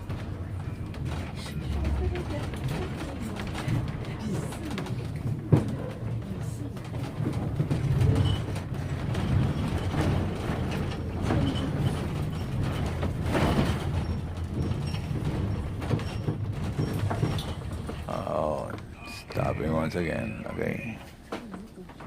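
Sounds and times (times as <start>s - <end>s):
clanks and knocks: 0.0s - 20.0s
train rumbling on track: 0.0s - 22.0s.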